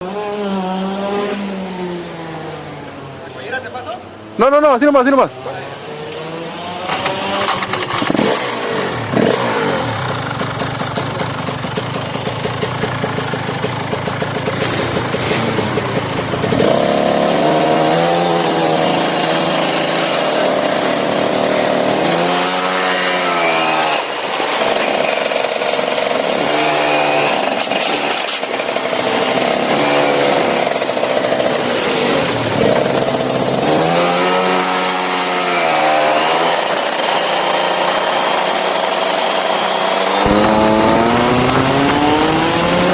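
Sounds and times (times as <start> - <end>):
go-kart engine revving: 5.6 - 42.9.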